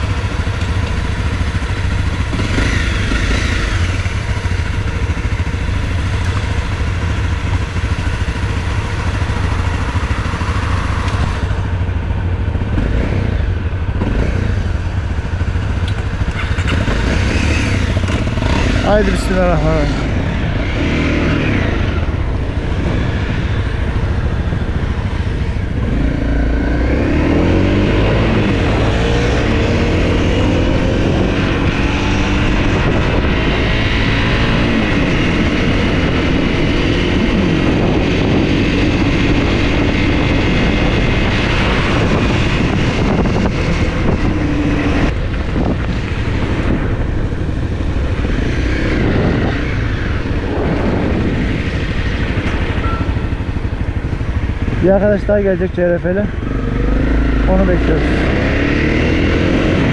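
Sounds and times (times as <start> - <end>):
dirt bike engine revving: 0.0 - 11.8, 12.5 - 59.9
wind on microphone: 6.6 - 55.4, 56.2 - 59.9.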